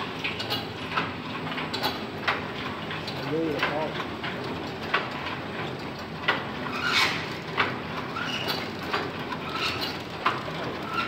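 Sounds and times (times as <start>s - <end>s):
sharp mechanical clicks and knocks: 0.0s - 6.5s, 7.2s - 11.0s.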